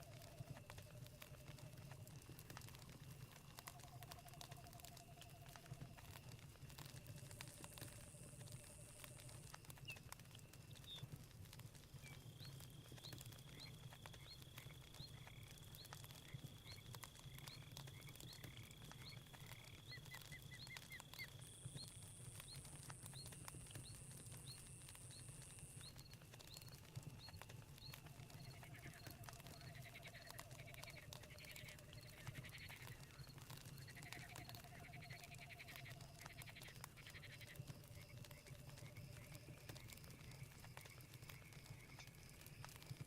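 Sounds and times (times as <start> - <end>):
campfire crackling: 0.0 - 43.0
insects trilling: 0.0 - 43.0.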